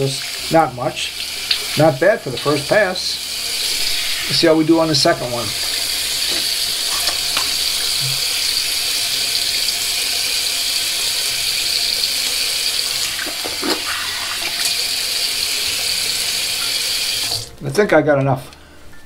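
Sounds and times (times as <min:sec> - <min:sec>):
tap water running into sink: 0:00.0 - 0:17.5.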